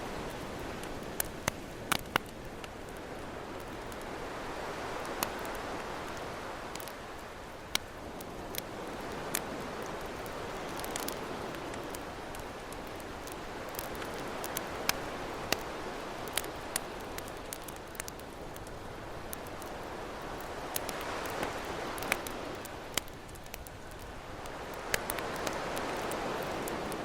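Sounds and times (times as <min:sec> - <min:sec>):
ocean waves: 0:00.0 - 0:23.1
campfire crackling and popping: 0:00.1 - 0:27.0.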